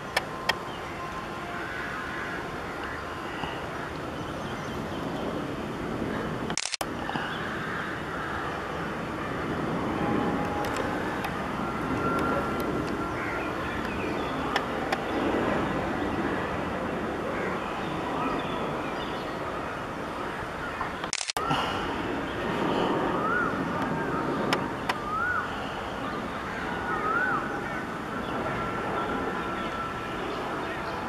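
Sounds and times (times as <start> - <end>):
jet engines on landing approach: 0.0 - 31.0.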